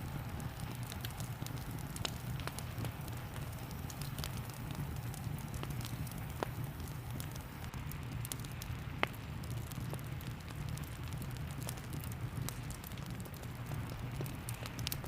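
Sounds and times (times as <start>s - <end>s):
fire crackling and popping: 0.0s - 15.0s
rain hiss and rumble: 0.0s - 15.0s.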